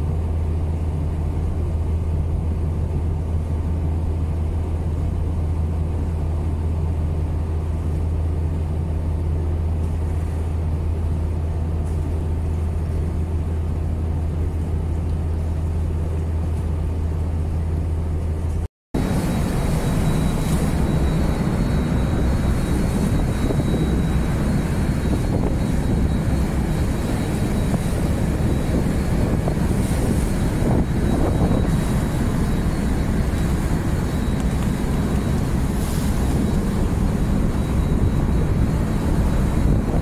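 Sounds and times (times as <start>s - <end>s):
boat engines droning: 0.0s - 40.0s
churning water: 0.0s - 40.0s
wind: 0.0s - 40.0s.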